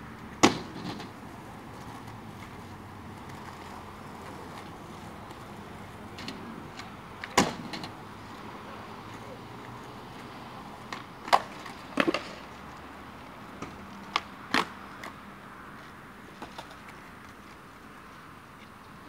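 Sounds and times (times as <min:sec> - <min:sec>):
skateboard wheels rolling: 0:00.0 - 0:19.0
skateboard clacking on ground: 0:00.2 - 0:17.7.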